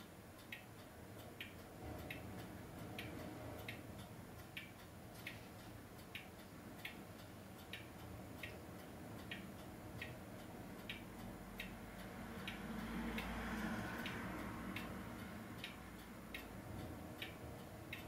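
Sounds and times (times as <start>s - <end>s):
mechanical ticking: 0.0s - 18.0s.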